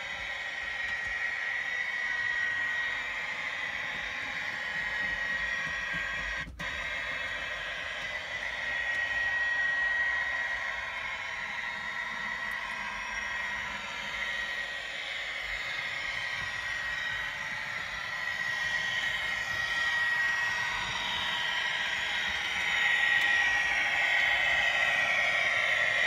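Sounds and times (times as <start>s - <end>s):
model locomotive diesel engine sound: 0.0s - 26.0s.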